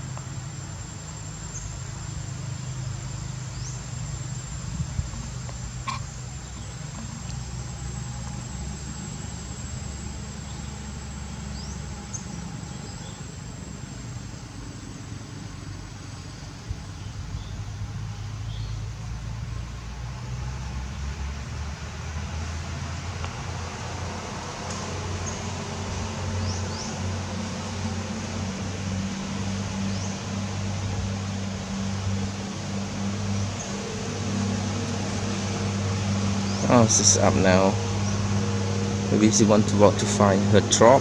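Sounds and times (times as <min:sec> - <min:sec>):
high-pitched insect drone: 0:00.0 - 0:18.7, 0:22.0 - 0:41.0
continuous low rumble: 0:00.0 - 0:41.0.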